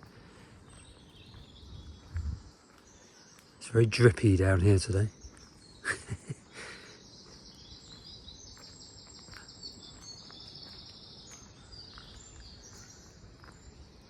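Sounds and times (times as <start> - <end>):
faint songbird trills: 0.6 - 14.0.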